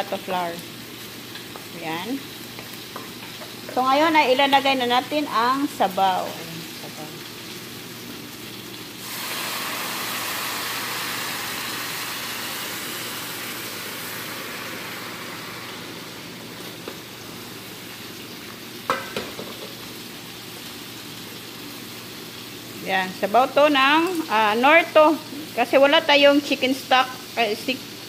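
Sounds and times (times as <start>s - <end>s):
liquid sizzling in hot pan: 0.0s - 28.0s.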